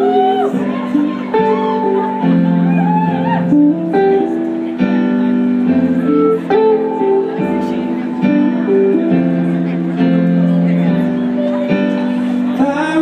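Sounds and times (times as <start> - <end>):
live band playing guitar and keyboard: 0.0 - 13.0.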